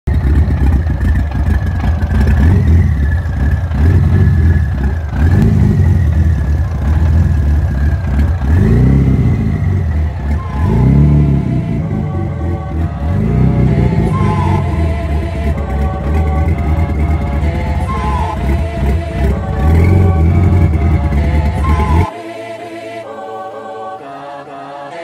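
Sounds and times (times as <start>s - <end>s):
car engine running: 0.1s - 22.1s
turbo whine: 0.1s - 22.2s
engine revving: 0.1s - 23.2s.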